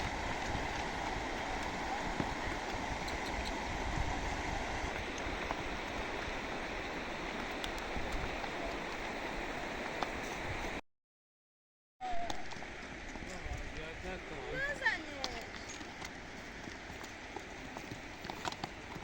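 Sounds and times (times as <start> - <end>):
stream water flowing: 0.0 - 10.8, 12.1 - 19.0.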